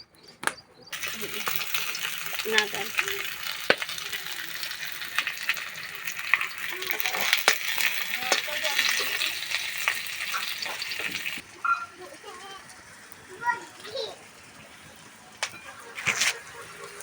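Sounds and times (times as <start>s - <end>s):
food sizzling in oil: 0.9s - 17.0s.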